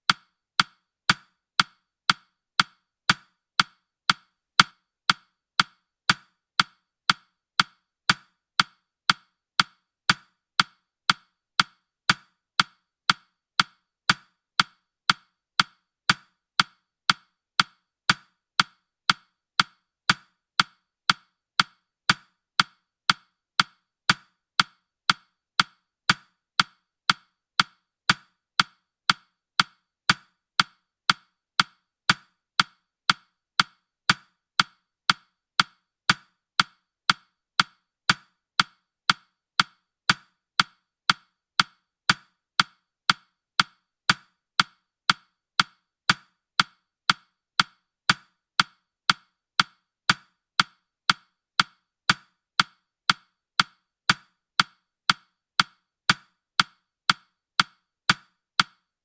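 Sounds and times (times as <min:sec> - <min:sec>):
timer ticking woody clicks: 0:00.0 - 0:58.8.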